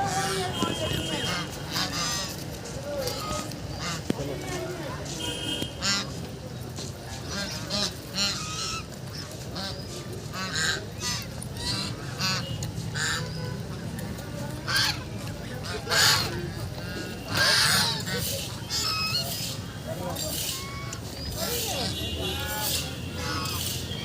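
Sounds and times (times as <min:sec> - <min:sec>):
ducks calling: 0:00.0 - 0:24.0.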